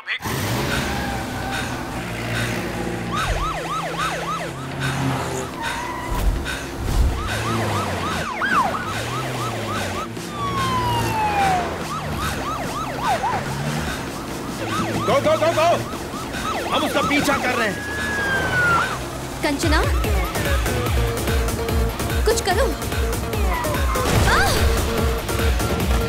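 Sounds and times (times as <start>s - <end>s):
police sirens yelping: 0.1s - 26.0s.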